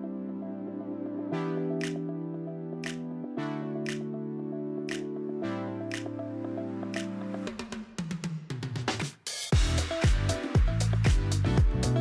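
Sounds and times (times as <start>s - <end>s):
synth chords: 0.0s - 7.7s, 9.6s - 12.0s.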